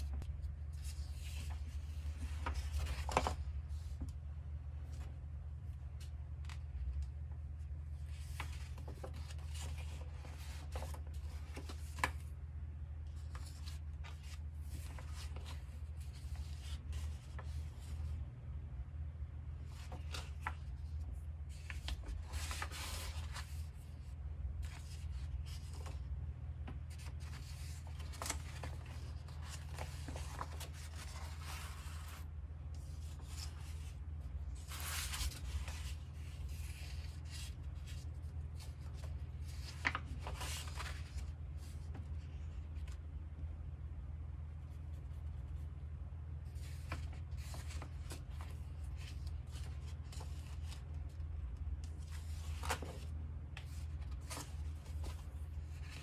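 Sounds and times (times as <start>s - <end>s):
paper pages rustling: 0.0s - 12.4s, 13.1s - 18.2s, 19.5s - 43.0s, 46.3s - 56.0s
steady low hum: 0.0s - 56.0s.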